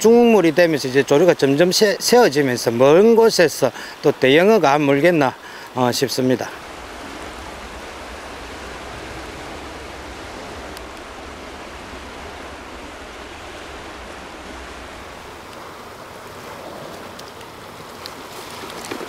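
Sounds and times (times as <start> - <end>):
sea water washing on rocks: 0.1 - 19.0.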